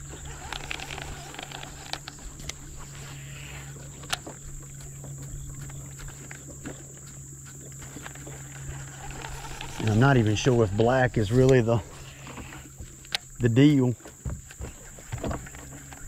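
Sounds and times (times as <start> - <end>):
insects buzzing: 0.0 - 16.0
low steady hum: 0.0 - 16.0.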